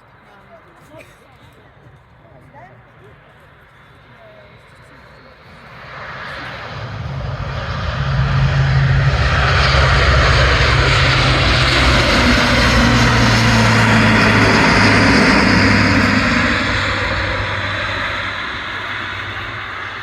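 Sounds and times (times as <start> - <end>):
propeller aircraft flying past: 3.5 - 20.0.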